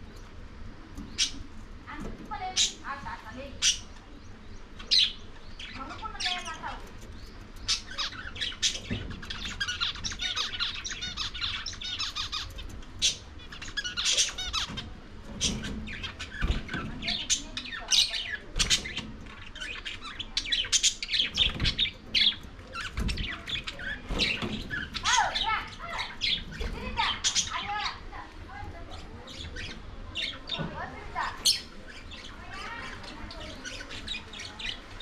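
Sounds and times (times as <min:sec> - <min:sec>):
budgerigars chattering: 0:00.0 - 0:35.0.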